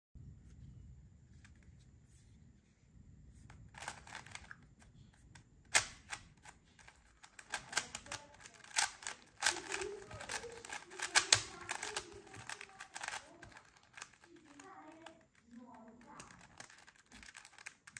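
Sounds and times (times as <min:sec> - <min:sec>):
puzzle cube plastic clicks: 0:03.5 - 0:17.9.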